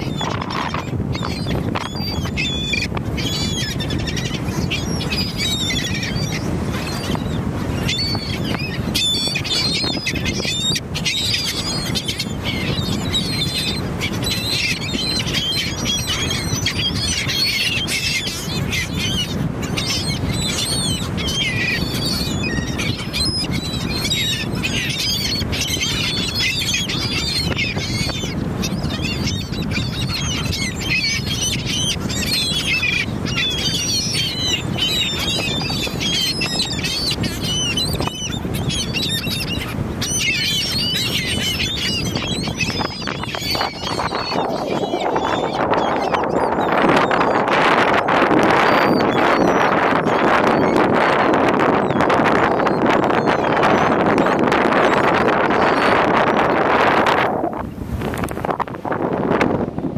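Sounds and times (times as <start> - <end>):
seabirds squawking and calling: 0.0 - 59.2.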